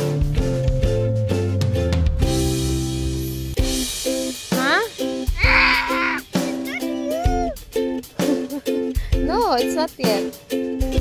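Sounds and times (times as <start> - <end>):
music with drums and guitar: 0.0 - 11.0.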